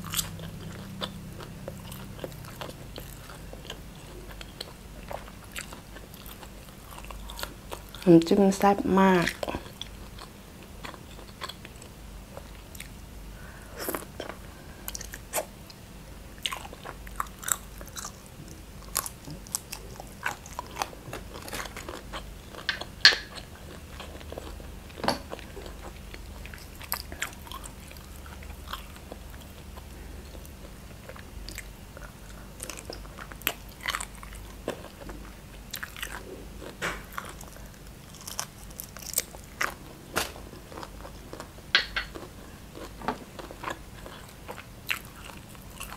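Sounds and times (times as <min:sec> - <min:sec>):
chewing shrimp: 0:00.0 - 0:08.1, 0:09.2 - 0:13.0, 0:16.4 - 0:45.9.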